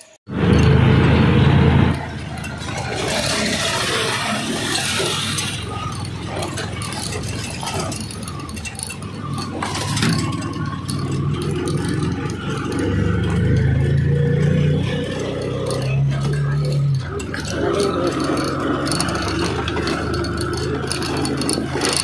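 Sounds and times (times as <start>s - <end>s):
road noise: 0.0s - 22.0s
small engine running: 0.0s - 22.0s
vehicle body rattling: 0.0s - 22.0s.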